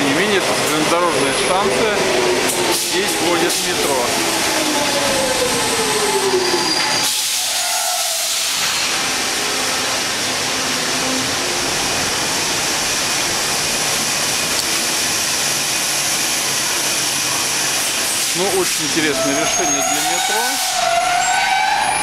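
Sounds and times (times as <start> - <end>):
train slowing whine: 0.0 - 22.0.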